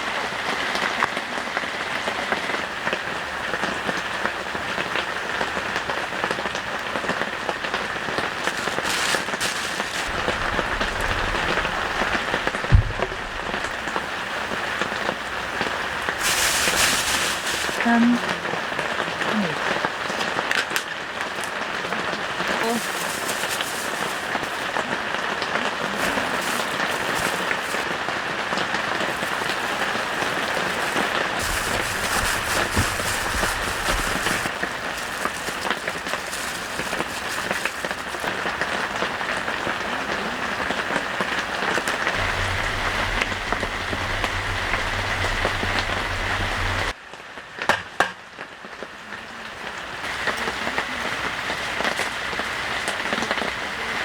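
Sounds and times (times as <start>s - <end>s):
heavy rain falling: 0.0s - 47.0s, 48.9s - 54.0s.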